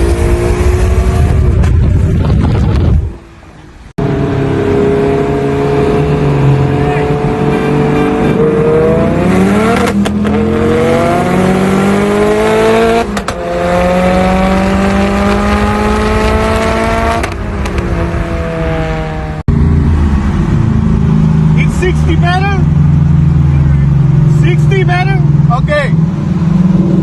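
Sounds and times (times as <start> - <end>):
car engine accelerating through gears: 4.0 - 27.0.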